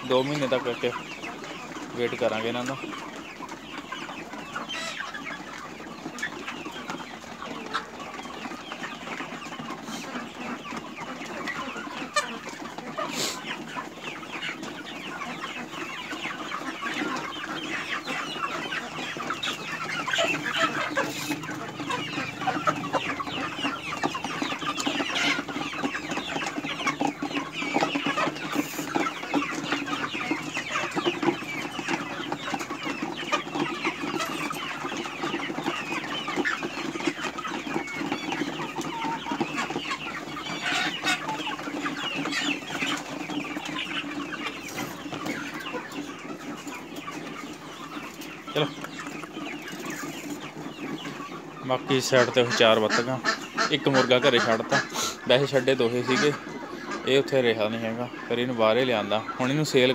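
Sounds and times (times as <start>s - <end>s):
young chickens clucking and cheeping: 0.0s - 59.9s.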